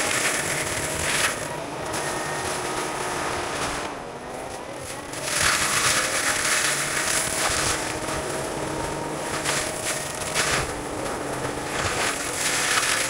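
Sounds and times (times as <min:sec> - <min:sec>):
heavy equipment running: 0:00.0 - 0:13.0.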